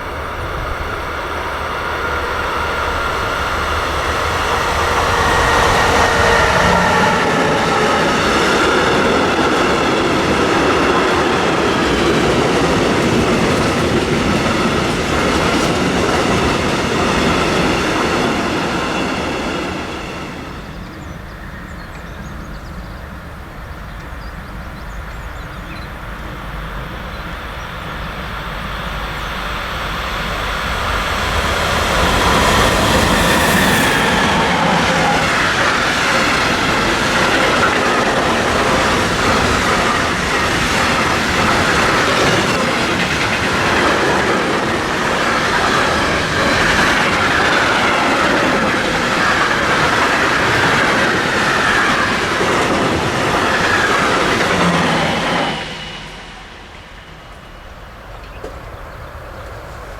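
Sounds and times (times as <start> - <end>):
train wheels squealing on rails: 0.0 - 59.9.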